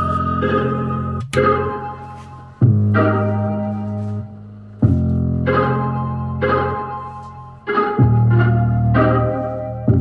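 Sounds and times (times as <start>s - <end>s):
bass line: 0.0s - 10.0s
keyboard chords: 0.0s - 10.0s.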